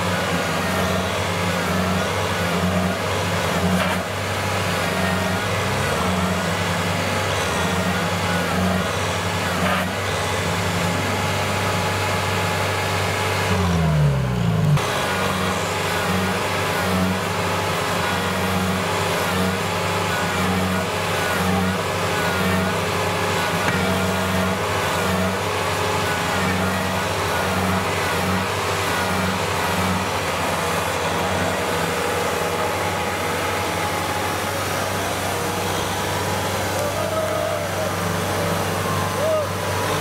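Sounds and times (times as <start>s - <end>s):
diesel engine under load: 0.0s - 40.0s.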